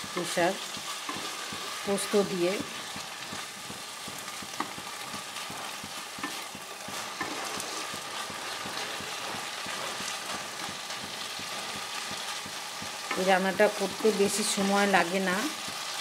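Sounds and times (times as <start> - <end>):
curry sizzling in a pan: 0.0 - 16.0
spatula knocking on pan: 0.1 - 14.6
wooden spatula stirring: 0.1 - 16.0.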